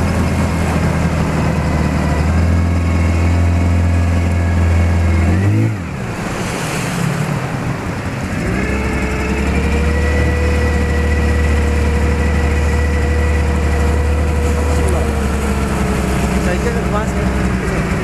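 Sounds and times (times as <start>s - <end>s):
outboard motor droning: 0.0s - 18.0s
water rushing: 0.0s - 18.0s
wind: 0.0s - 18.0s.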